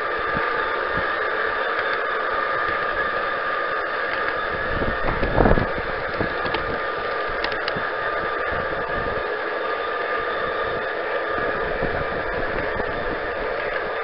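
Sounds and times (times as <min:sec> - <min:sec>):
model train whine and hiss: 0:00.0 - 0:14.0.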